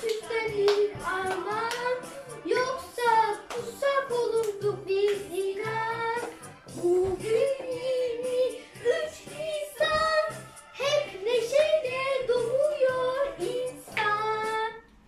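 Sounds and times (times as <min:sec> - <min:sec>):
instrumental backing track: 0:00.0 - 0:15.0.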